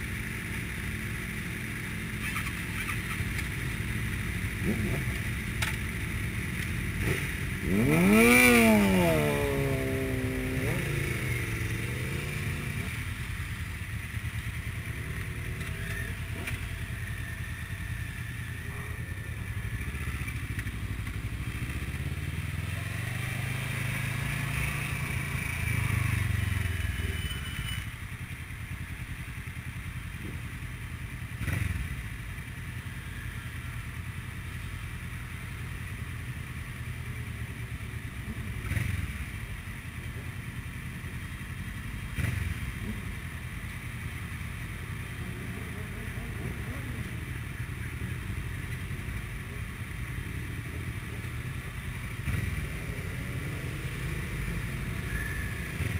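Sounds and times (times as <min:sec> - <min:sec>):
motorcycle engine revving: 0:00.0 - 0:27.9, 0:31.2 - 0:32.8, 0:38.3 - 0:39.5, 0:40.6 - 0:55.9
motorcycle engines idling: 0:00.0 - 0:55.9.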